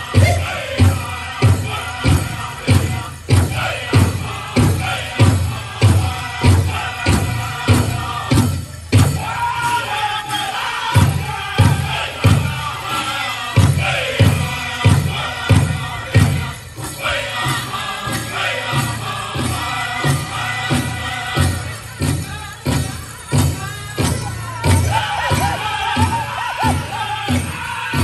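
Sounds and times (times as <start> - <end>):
big drum steady beat: 0.0 - 28.0
high-pitched voices singing: 0.0 - 28.0.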